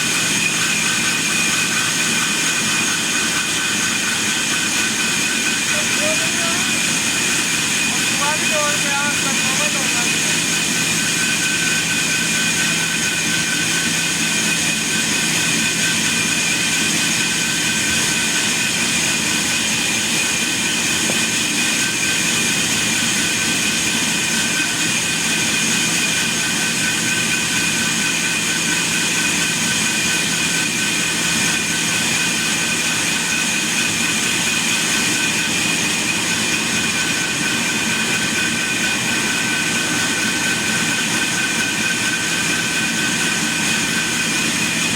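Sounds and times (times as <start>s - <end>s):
high mechanical whine: 0.0s - 44.9s
sawmill machinery running: 0.0s - 44.9s.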